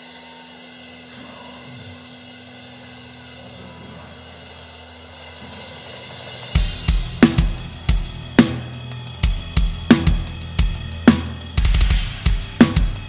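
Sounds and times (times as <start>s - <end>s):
heavy metal drumming: 0.0s - 13.0s
metal band playing: 0.0s - 13.0s.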